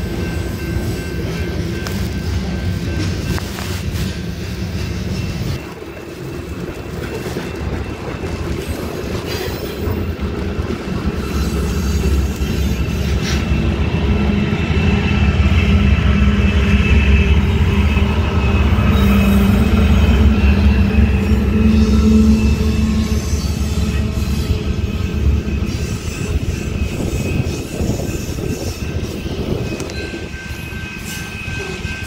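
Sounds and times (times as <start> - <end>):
diesel locomotive: 0.0 - 32.0
train wheels clattering on rails: 0.0 - 32.0.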